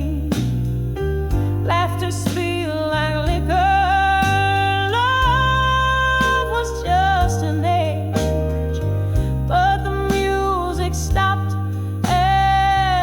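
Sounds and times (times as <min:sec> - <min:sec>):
slow blues-soul music: 0:00.0 - 0:13.0.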